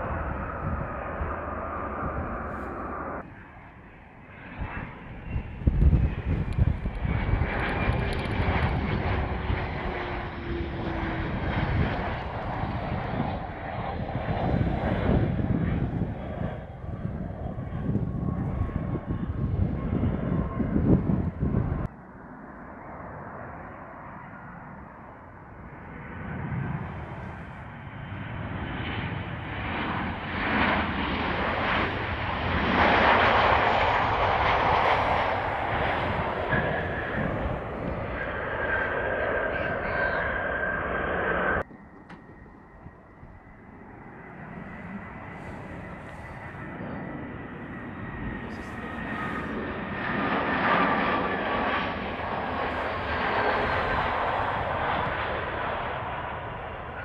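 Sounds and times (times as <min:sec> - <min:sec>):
jet turbofans landing: 0:00.0 - 0:21.9, 0:23.6 - 0:57.0.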